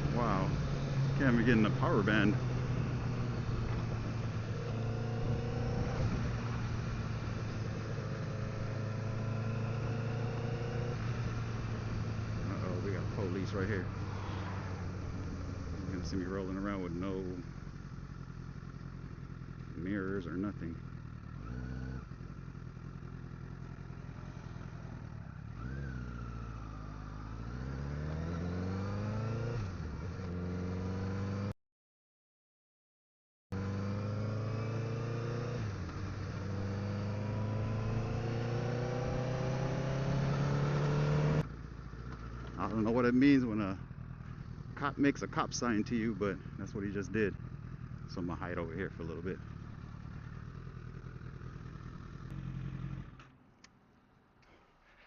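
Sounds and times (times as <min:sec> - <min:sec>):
motorcycle engine at low revs: 0:00.0 - 0:31.5, 0:33.5 - 0:55.0.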